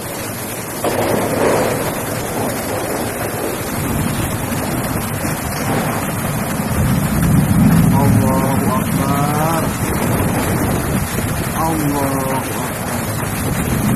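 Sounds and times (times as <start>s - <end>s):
heavy rain pouring: 0.0s - 13.9s
wind gusts on microphone: 0.9s - 13.9s.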